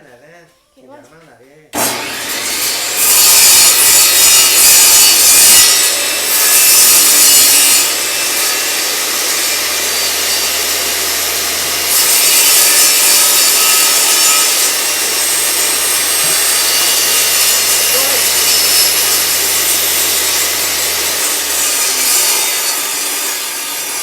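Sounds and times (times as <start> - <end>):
saw cutting wood: 1.8 - 24.0.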